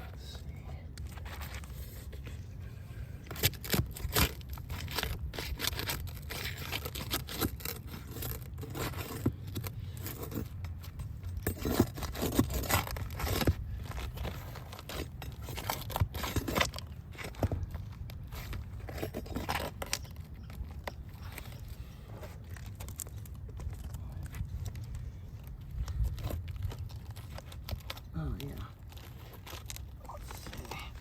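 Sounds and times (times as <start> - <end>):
steady low rumble: 0.0 - 7.0, 9.4 - 31.0
roof shingles scraping and tearing: 3.3 - 10.8, 11.4 - 31.0.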